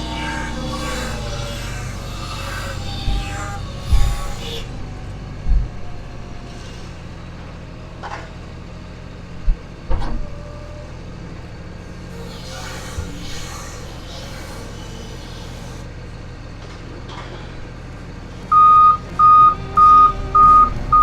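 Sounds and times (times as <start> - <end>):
diesel truck engine running: 0.0 - 12.3, 15.8 - 21.0.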